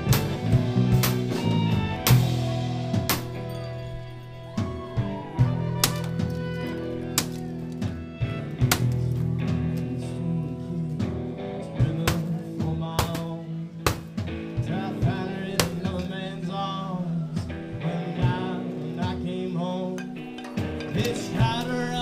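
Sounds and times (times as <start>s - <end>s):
drum kit playing: 0.0s - 19.4s, 20.0s - 22.0s
electric guitar melody: 0.0s - 22.0s.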